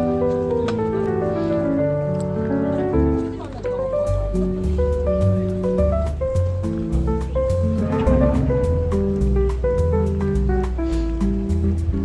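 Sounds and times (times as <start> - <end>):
slow mellow song: 0.0 - 12.0.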